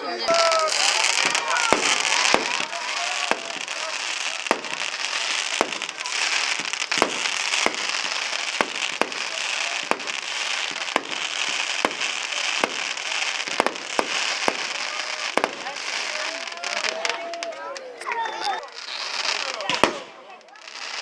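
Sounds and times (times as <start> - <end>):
fireworks bangs: 0.0 - 21.0
fireworks crackling hiss: 0.0 - 21.0.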